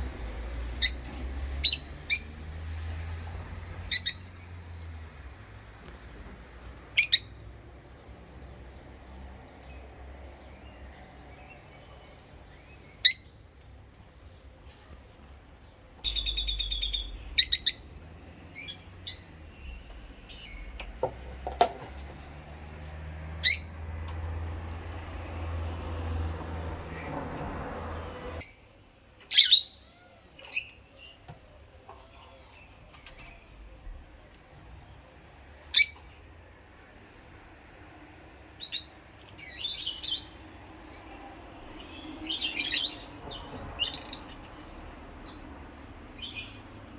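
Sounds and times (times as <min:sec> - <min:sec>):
lovebirds chattering and chirping: 0:00.0 - 0:22.3, 0:23.3 - 0:28.5, 0:29.2 - 0:36.2, 0:38.5 - 0:46.9.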